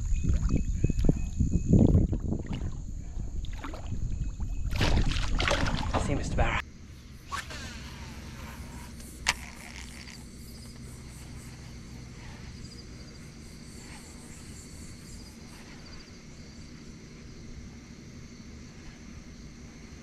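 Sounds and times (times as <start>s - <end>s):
insects chirping in high trills: 0.0s - 20.0s
steady low hum: 0.0s - 20.0s.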